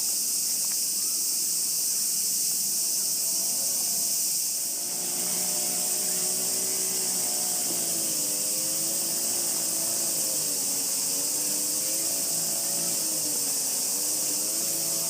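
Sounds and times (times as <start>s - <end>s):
cicadas calling in chorus: 0.0s - 15.0s
droning motor hum: 2.6s - 15.0s.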